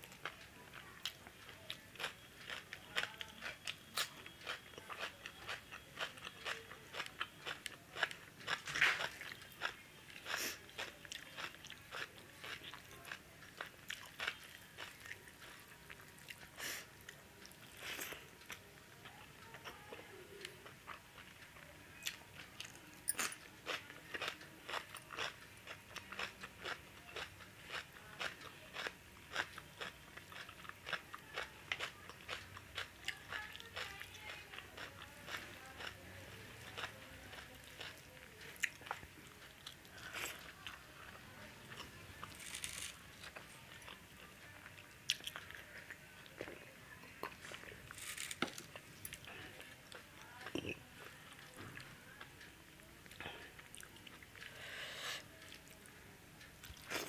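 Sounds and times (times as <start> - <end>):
person chewing with crunching: 0.0 - 52.2, 56.6 - 57.0.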